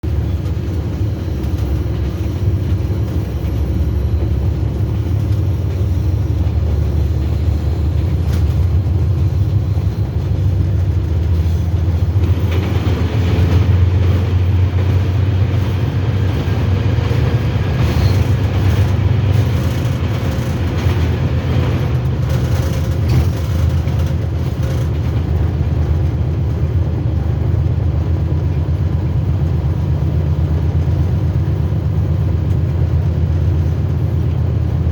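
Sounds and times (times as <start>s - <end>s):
train rumbling on rails: 0.0s - 34.9s.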